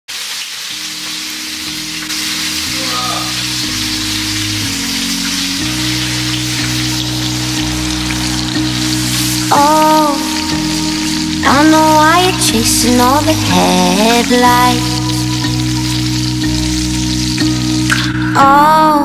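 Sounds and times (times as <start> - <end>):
meat sizzling in a pot: 0.1 - 18.3
background music low notes: 0.7 - 19.0.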